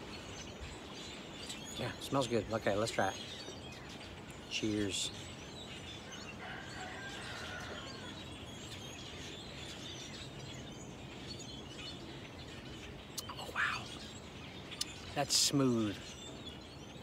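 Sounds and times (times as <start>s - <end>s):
birds chirping: 0.0s - 17.0s
steady background hiss: 0.0s - 17.0s.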